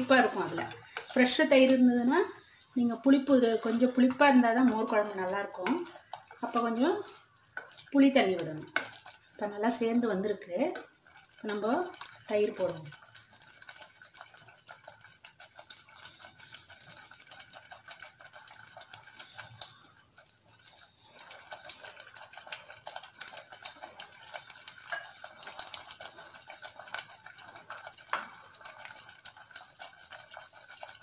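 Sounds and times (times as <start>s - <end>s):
wooden spoon stirring in pot: 0.0s - 31.0s.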